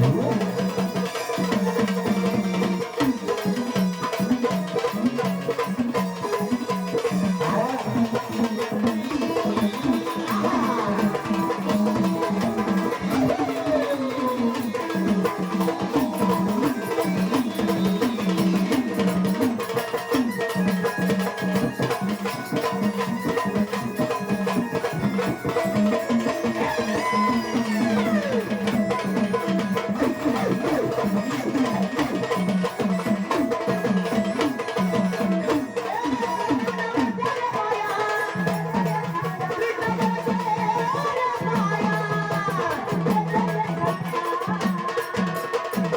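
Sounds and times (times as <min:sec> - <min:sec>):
hand drum and wood block rhythm: 0:00.0 - 0:45.9.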